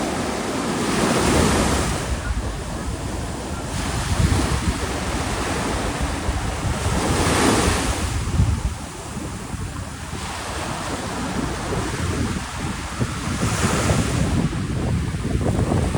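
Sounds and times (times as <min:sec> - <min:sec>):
ocean surf breaking: 0:00.0 - 0:15.9
wind rumbling on microphone: 0:00.0 - 0:15.9.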